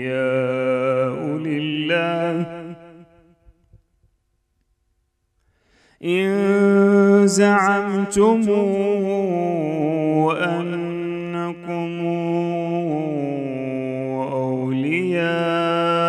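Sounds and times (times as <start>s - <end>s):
man reciting melodically: 0.0s - 3.0s, 6.0s - 16.0s.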